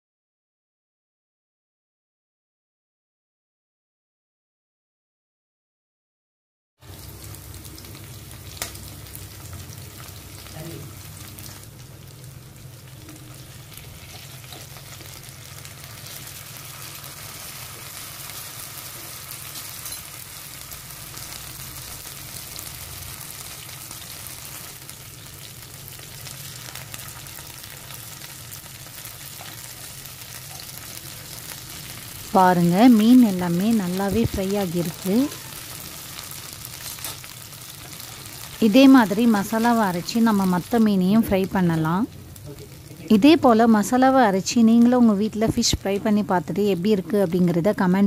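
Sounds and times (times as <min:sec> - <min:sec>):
fish sizzling in hot oil: 0:06.8 - 0:47.9.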